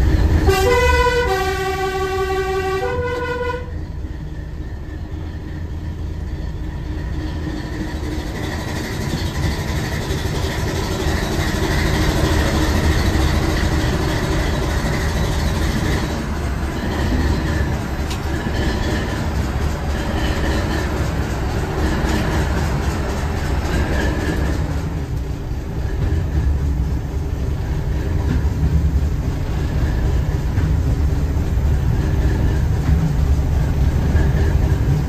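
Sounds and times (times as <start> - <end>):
train wheels clicking over rails: 0.0 - 35.0.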